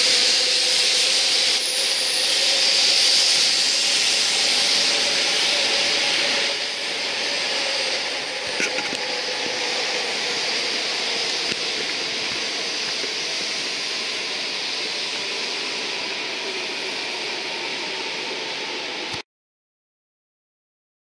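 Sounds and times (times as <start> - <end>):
train rushing rumble: 0.0 - 19.2.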